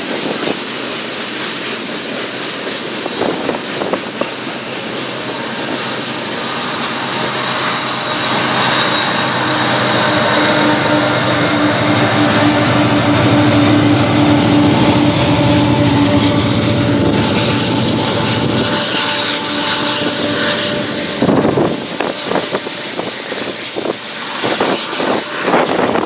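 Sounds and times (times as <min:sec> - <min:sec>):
diesel locomotive engine drone: 0:00.0 - 0:26.0
gusty rumbling: 0:00.0 - 0:26.0.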